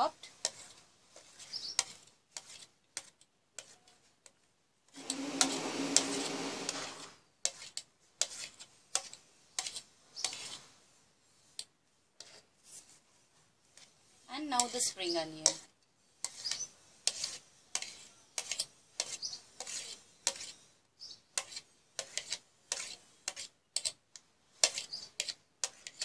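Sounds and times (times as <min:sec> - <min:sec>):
spoon scraping plastic plate: 0:00.2 - 0:04.0, 0:04.9 - 0:10.6, 0:13.8 - 0:24.0, 0:24.6 - 0:26.0.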